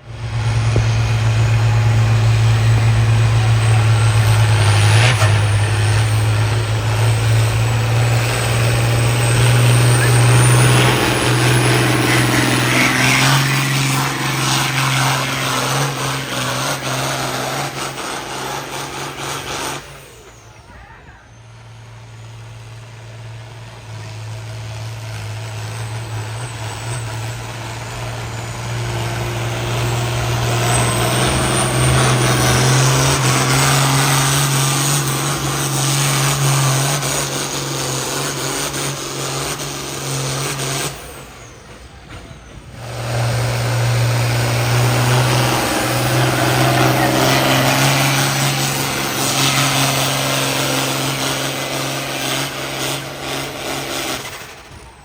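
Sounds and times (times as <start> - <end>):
engine running flat out: 0.0 - 55.0
high turbo whistle: 0.0 - 55.0.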